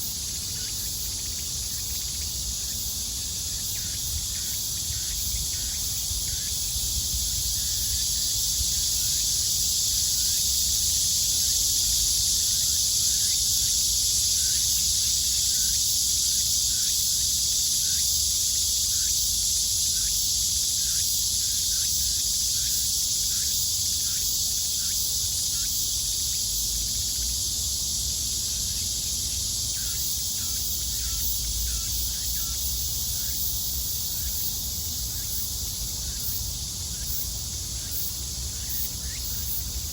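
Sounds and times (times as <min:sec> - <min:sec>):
cicada chorus drone: 0:00.0 - 0:39.9.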